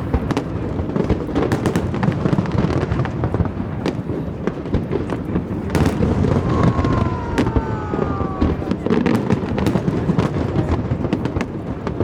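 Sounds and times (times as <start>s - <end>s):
fireworks crackling and popping: 0.0s - 12.0s
low rumble of fireworks bursts: 0.0s - 12.0s
loud fireworks bangs: 0.1s - 12.0s.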